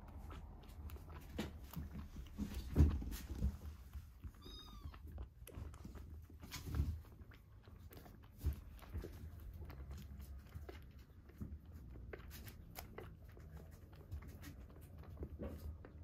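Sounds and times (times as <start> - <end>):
kitten suckling clicks: 0.0 - 16.0.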